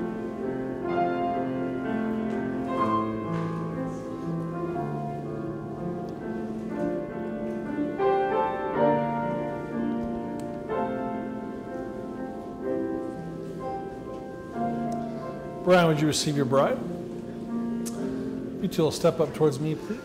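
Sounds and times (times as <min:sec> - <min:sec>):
slow piano processional music: 0:00.0 - 0:20.0.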